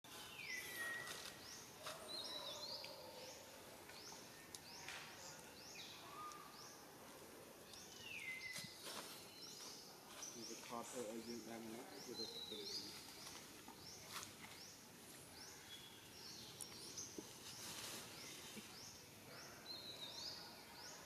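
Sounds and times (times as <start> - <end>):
faint forest ambience: 0.1 - 21.0.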